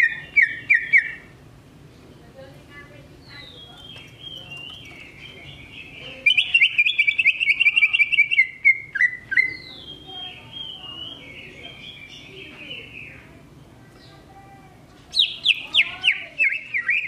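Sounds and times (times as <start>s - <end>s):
bird singing: 0.0s - 1.4s, 3.0s - 14.4s, 15.1s - 17.0s.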